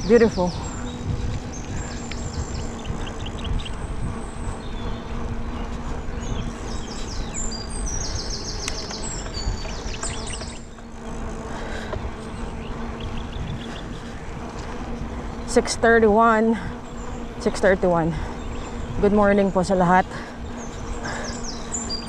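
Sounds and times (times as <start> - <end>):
high chirping trills: 0.0 - 11.4, 12.1 - 22.0
faint steady hum: 0.0 - 22.0
wind rumbling on microphone: 0.0 - 22.0.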